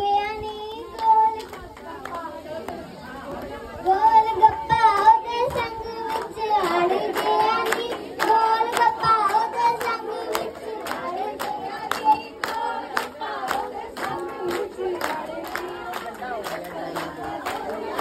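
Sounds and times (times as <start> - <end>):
women singing a folk song: 0.0 - 18.0
hand-clapping in time: 0.9 - 2.8, 4.4 - 18.0.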